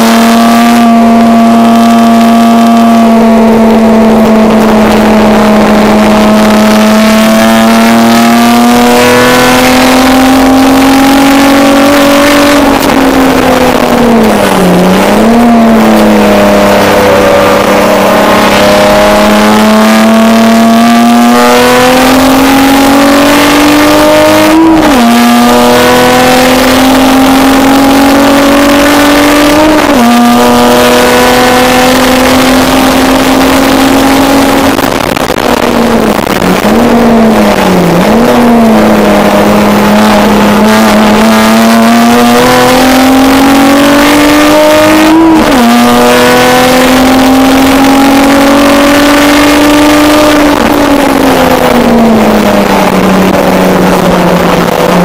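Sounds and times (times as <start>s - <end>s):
race car engine pulling through gears: 0.0s - 55.0s.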